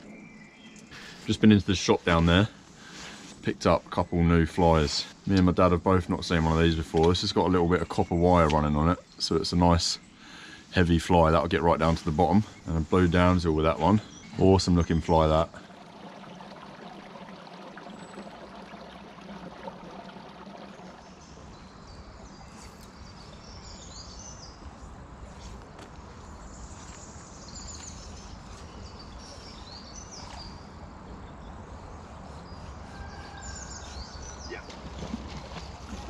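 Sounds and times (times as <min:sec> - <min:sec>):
small birds chirping: 0:00.0 - 0:15.7, 0:20.5 - 0:36.0.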